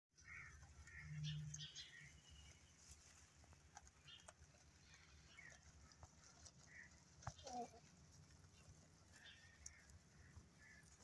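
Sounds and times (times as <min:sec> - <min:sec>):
rabbits nibbling leaves: 0:00.2 - 0:11.0.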